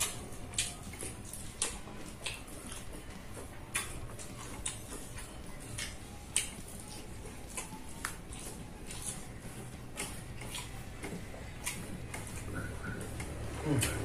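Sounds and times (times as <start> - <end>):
lip smacks and mouth clicks: 0.0 - 14.0
wet chewing: 0.0 - 14.0.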